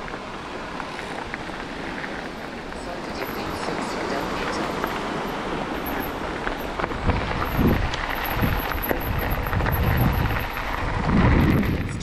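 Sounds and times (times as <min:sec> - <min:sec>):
bike tyres rolling on dirt path: 0:00.0 - 0:12.0
wind buffeting microphone: 0:00.0 - 0:12.0.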